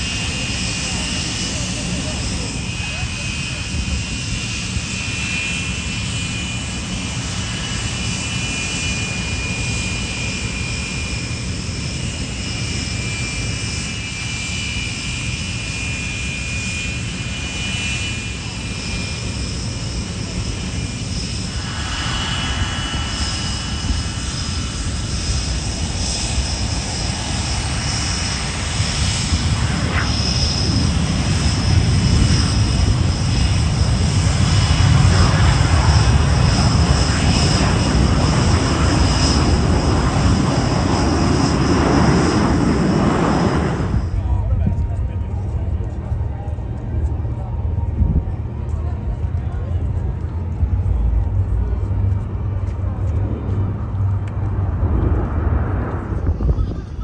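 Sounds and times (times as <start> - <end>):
jet engine rumble and whine: 0.0 - 57.0.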